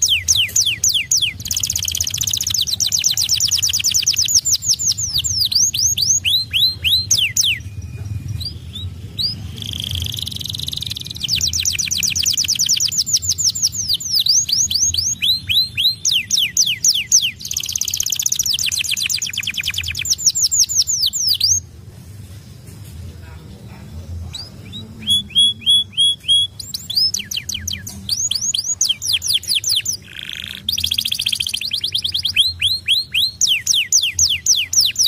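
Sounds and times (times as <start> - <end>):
canary singing: 0.0 - 21.8, 23.3 - 35.0.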